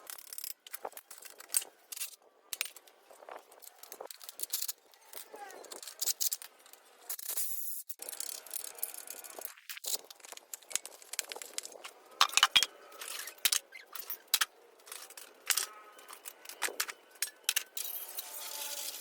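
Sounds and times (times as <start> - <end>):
metal tools clinking and scraping: 0.1 - 2.9, 3.5 - 10.9, 12.2 - 19.0.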